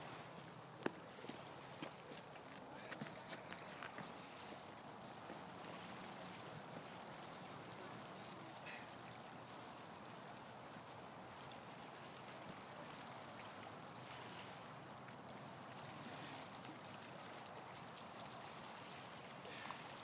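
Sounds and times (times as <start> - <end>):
small waves lapping on rocks: 0.0 - 20.0.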